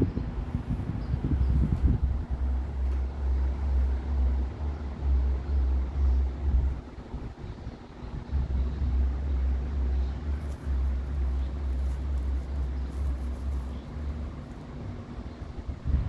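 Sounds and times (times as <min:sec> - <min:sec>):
air buffeting microphone: 0:00.0 - 0:16.0
electric fan motor hum: 0:00.0 - 0:16.0.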